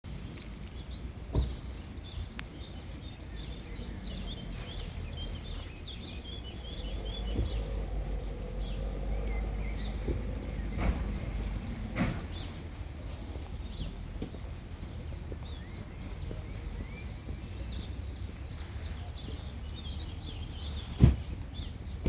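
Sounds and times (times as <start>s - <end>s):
steady low rumble: 0.1s - 20.6s
small birds chirping: 0.1s - 22.0s.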